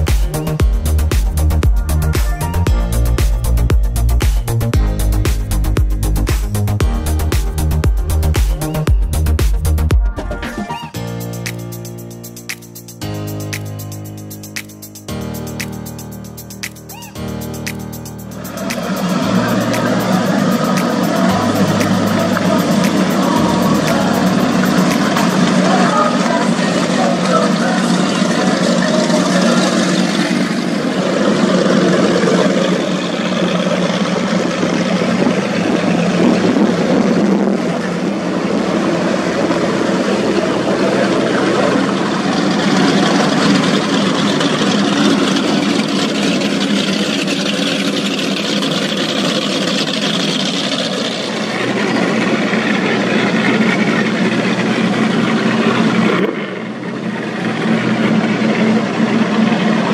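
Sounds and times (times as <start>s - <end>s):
powerboat engines droning: 0.0s - 59.9s.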